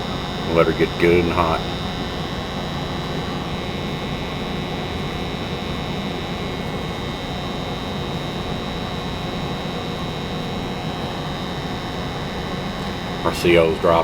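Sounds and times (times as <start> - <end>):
high whine: 0.0 - 14.0
low hum: 0.0 - 14.0.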